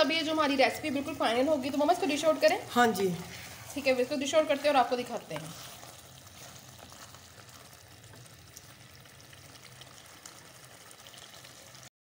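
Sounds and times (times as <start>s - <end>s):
curry bubbling in a pot: 0.0s - 11.9s.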